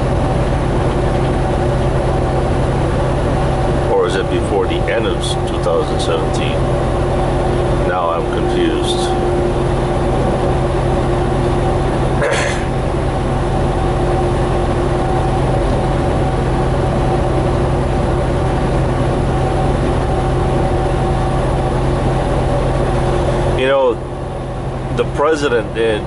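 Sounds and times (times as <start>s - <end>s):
truck engine and road drone: 0.0s - 26.0s.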